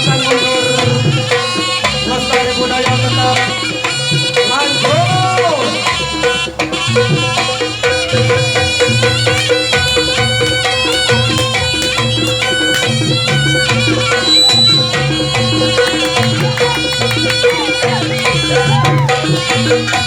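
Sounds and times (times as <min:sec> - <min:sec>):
hand-drum rhythm: 0:00.0 - 0:20.0
sustained pitched melody: 0:00.0 - 0:20.0.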